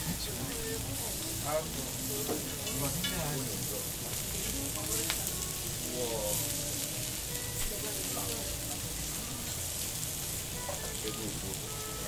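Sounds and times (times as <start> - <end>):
meat sizzling on grill: 0.0 - 12.0.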